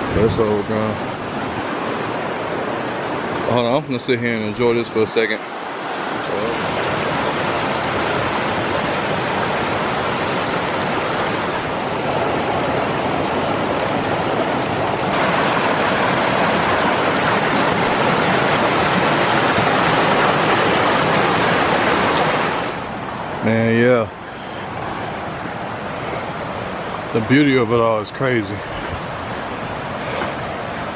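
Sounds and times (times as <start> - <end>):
stream rushing over rocks: 0.0 - 30.9.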